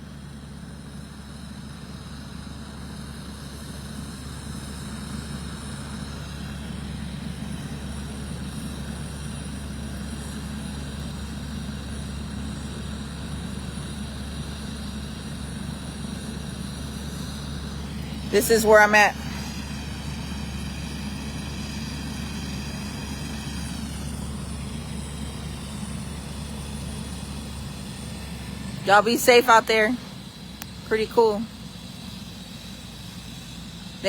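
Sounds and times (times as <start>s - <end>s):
helicopter turbine whine: 0.0s - 34.0s.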